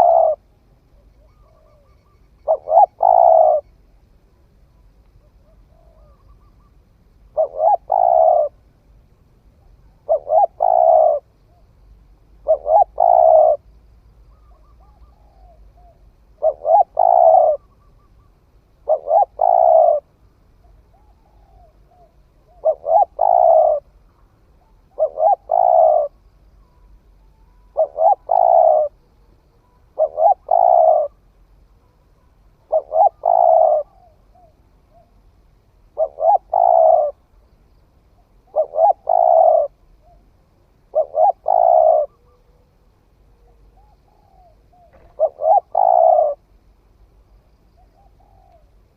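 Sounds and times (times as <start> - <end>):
dove cooing: 0.0 - 3.7, 5.2 - 8.7, 9.6 - 11.6, 12.4 - 13.7, 14.3 - 31.2, 31.8 - 35.2, 35.8 - 37.3, 38.4 - 46.5, 47.8 - 48.9
faint soft bird calls: 0.0 - 48.9.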